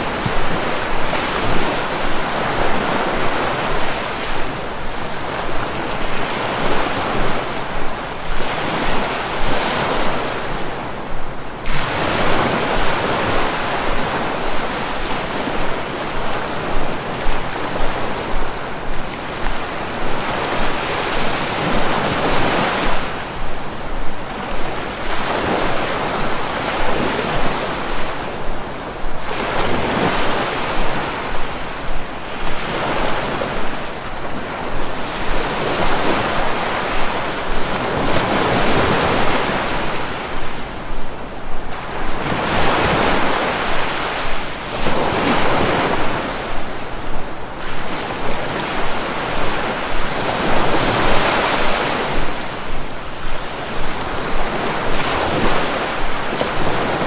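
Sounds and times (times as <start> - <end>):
sea waves washing ashore: 0.0 - 57.0
wind buffeting microphone: 0.0 - 57.0.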